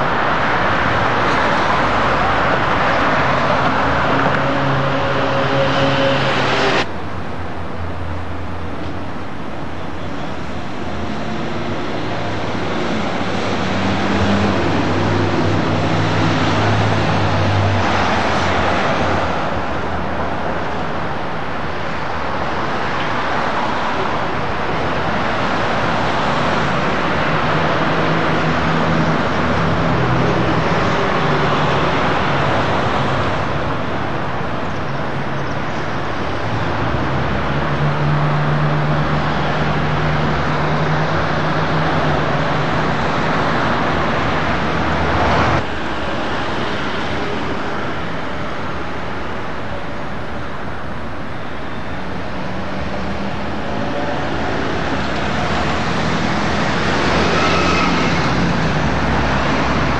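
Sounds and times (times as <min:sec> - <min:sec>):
car engines running: 0:00.0 - 0:59.9
tyres on the road: 0:00.0 - 0:59.9.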